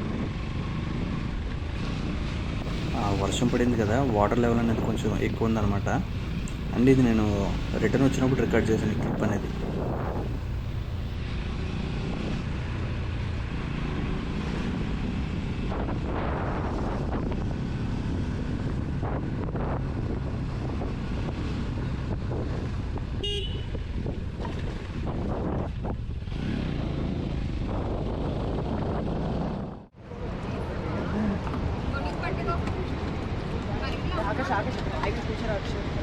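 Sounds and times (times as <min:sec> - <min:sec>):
motorcycle engine and wind rumble: 0:00.0 - 0:36.0.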